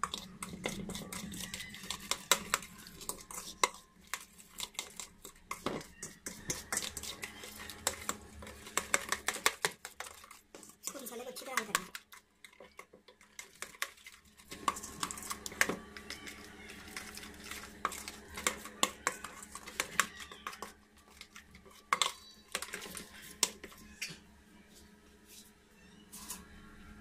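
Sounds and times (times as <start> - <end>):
metal spoon scraping steel bowl: 0.0 - 23.8.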